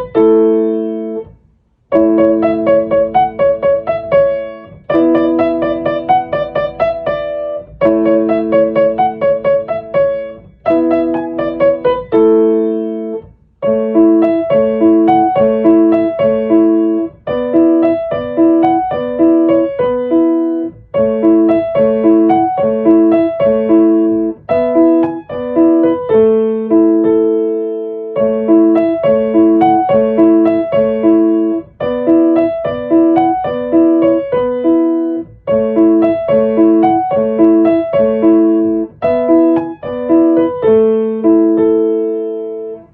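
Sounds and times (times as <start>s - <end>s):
solo piano chords: 0.0s - 42.9s.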